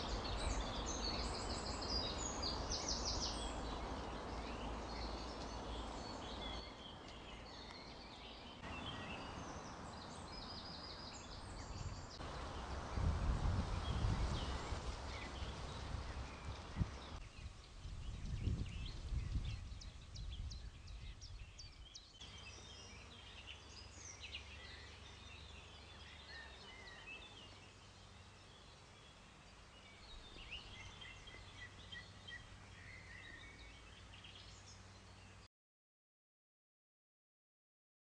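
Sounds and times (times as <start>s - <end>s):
outdoor background noise: 0.0s - 35.5s
songbirds chirping: 0.0s - 35.5s.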